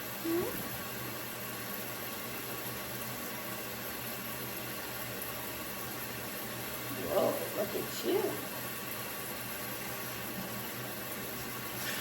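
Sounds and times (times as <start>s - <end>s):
shower water hissing: 0.0s - 12.0s.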